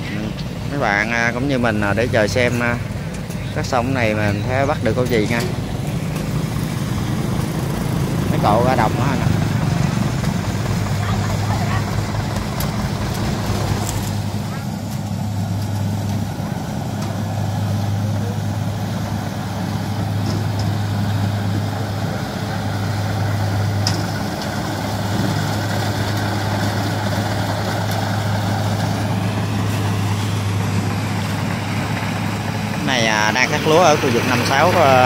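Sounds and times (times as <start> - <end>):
combine harvester diesel engine: 0.0 - 35.0.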